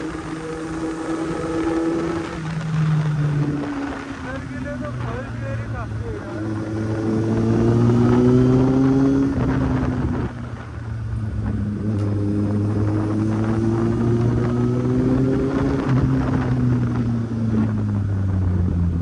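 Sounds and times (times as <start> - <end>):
motorcycle engine revving up: 0.0 - 19.0.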